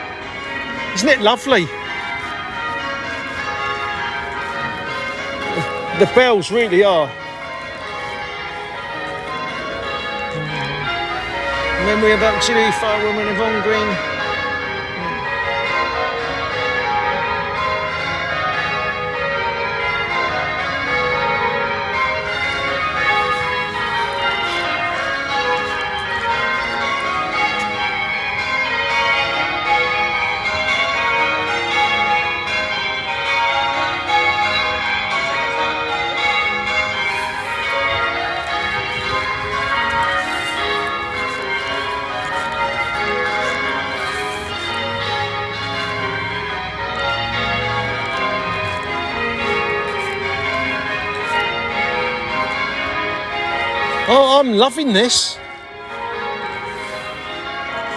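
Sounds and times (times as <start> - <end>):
church bells pealing: 0.0 - 57.9.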